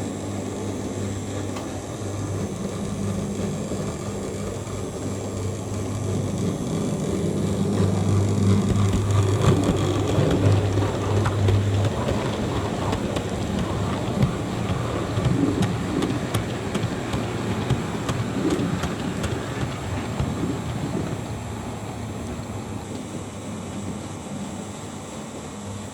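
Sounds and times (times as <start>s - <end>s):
model train rumbling: 0.0s - 25.9s.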